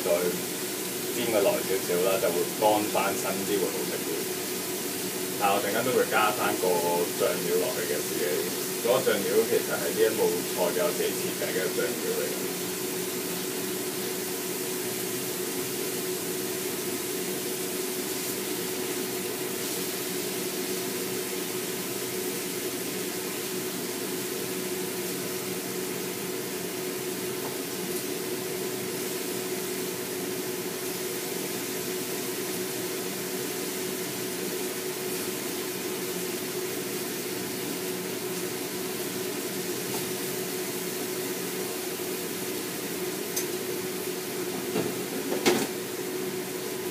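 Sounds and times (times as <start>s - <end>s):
food sizzling in oil: 0.0s - 46.9s.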